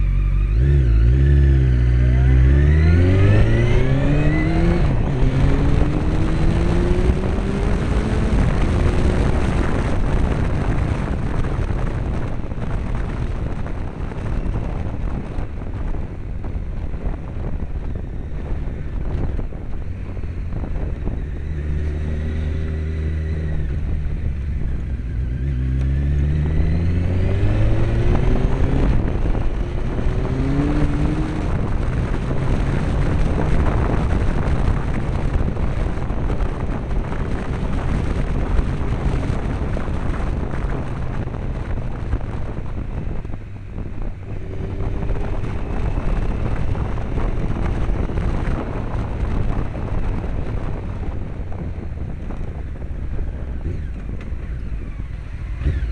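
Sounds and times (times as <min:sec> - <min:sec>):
motorcycle engine revving: 0:00.0 - 0:55.9
wind rush on microphone: 0:00.0 - 0:55.9.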